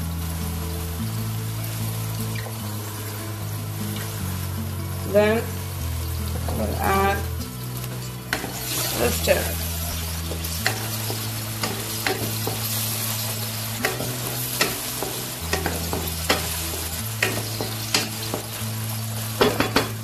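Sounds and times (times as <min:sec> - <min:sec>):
okra sizzling in oil: 0:00.0 - 0:20.0.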